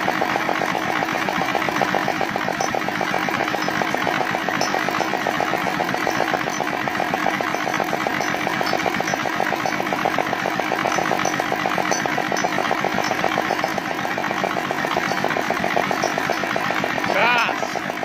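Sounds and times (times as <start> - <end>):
single-cylinder diesel engine running: 0.0 - 18.0.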